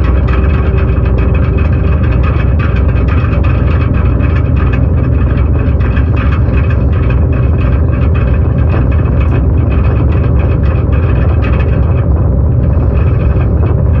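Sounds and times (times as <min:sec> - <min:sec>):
low rumble of ship and sea: 0:00.0 - 0:14.0
wind buffeting microphone: 0:00.0 - 0:14.0.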